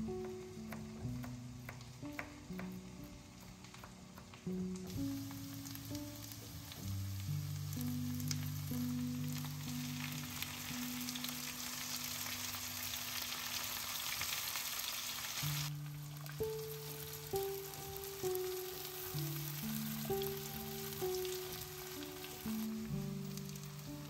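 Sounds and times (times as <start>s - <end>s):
soft background music: 0.0s - 14.0s, 15.3s - 24.0s
food sizzling in frying pan: 0.0s - 24.0s.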